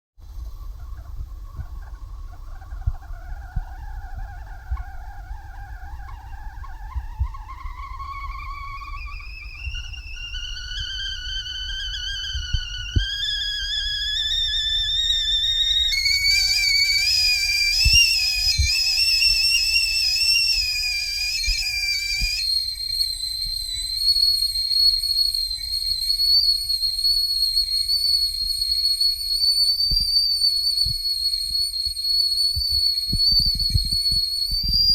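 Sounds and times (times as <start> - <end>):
kettle whistling: 0.2 - 34.9.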